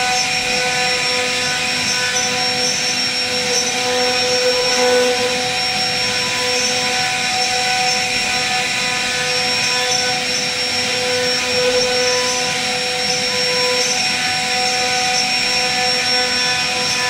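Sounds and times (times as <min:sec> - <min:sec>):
bit cutting wood hiss: 0:00.0 - 0:17.0
cnc router spindle whine: 0:00.0 - 0:17.0.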